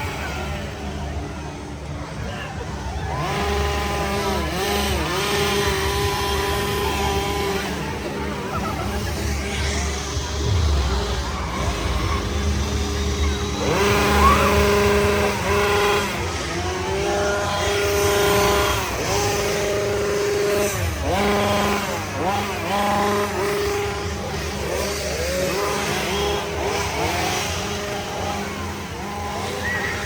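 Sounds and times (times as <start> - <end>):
chainsaws revving: 0.0 - 30.0.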